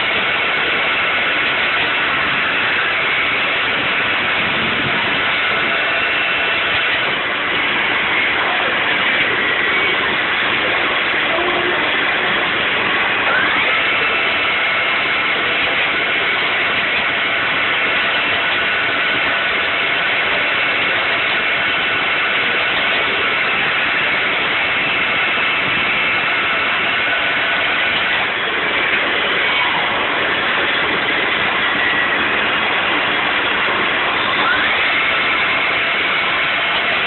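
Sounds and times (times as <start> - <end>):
lathe running with whine: 0.0 - 37.0.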